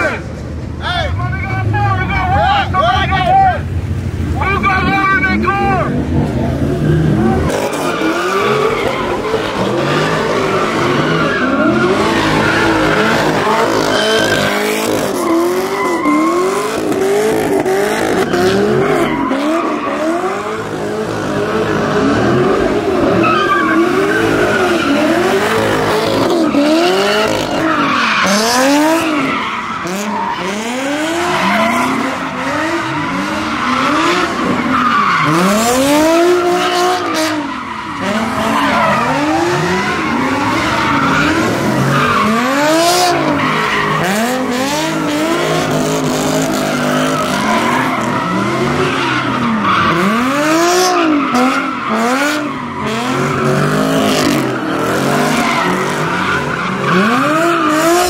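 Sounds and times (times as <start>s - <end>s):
car engine revving: 0.0s - 58.0s
tires screeching on pavement: 0.0s - 58.0s.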